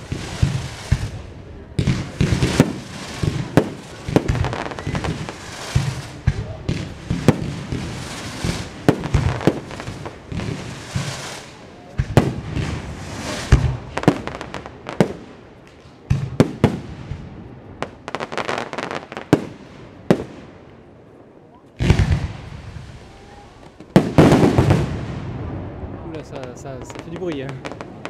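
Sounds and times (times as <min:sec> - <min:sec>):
fireworks bursting with sharp bangs: 0:00.0 - 0:20.9, 0:21.7 - 0:28.0
fireworks crackling and hissing: 0:00.0 - 0:28.0.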